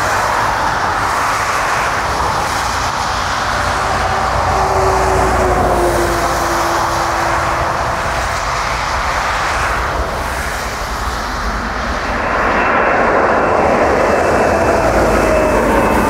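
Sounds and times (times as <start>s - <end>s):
high engine whine: 0.0s - 16.0s
jet engines roaring: 0.0s - 16.0s.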